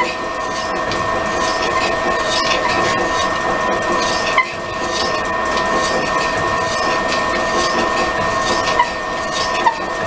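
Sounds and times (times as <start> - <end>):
drill motor whine: 0.0 - 10.0.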